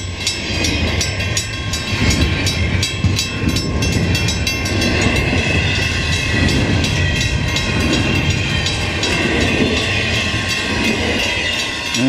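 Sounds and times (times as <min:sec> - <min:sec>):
level-crossing bell ringing: 0:00.0 - 0:12.0.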